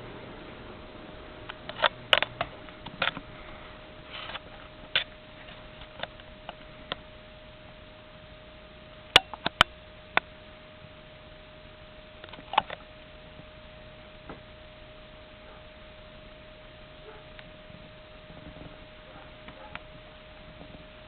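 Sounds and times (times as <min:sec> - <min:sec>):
ceiling fan humming: 0:00.0 - 0:21.0.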